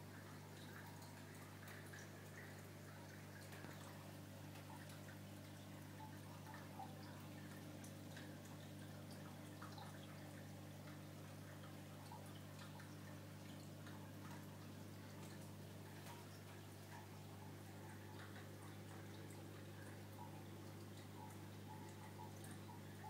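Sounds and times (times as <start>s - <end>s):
aquarium equipment hum: 0.0s - 23.0s
water dripping and trickling: 0.0s - 23.0s.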